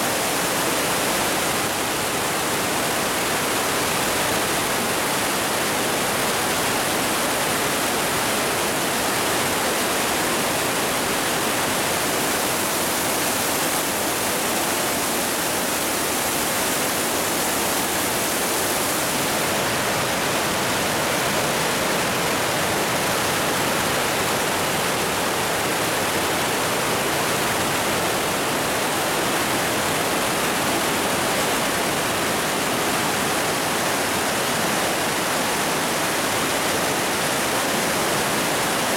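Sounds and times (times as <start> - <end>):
river rushing through gorge: 0.0 - 38.9
waterfalls pouring: 0.0 - 38.9.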